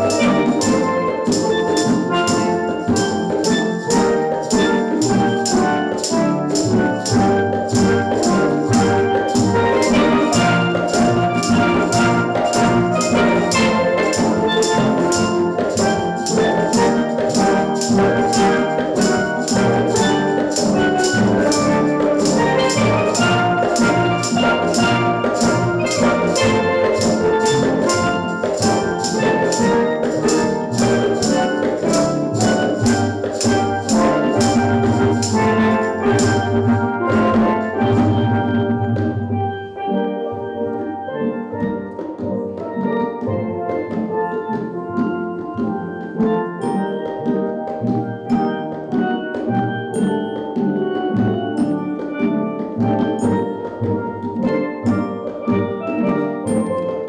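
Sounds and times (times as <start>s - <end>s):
percussion beat: 0.0s - 39.9s, 41.6s - 57.0s
steel drum band playing: 0.0s - 57.0s.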